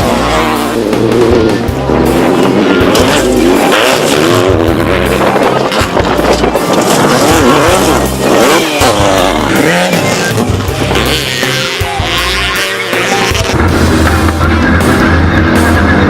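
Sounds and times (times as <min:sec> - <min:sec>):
music with heavy bass line: 0:00.0 - 0:16.0
race vehicle engines revving: 0:00.0 - 0:16.0.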